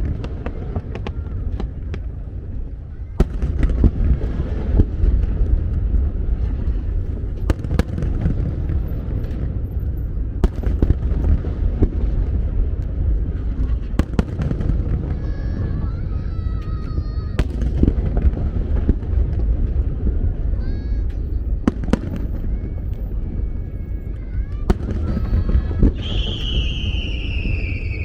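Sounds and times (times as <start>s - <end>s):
deep rumble of fireworks booms: 0.0s - 28.0s
sharp fireworks cracks: 0.0s - 28.0s.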